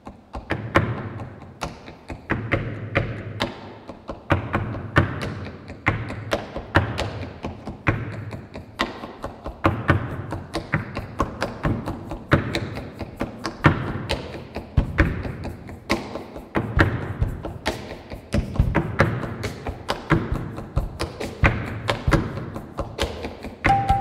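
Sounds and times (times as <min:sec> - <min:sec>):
tap shoes clicking on stage: 0:00.0 - 0:24.0.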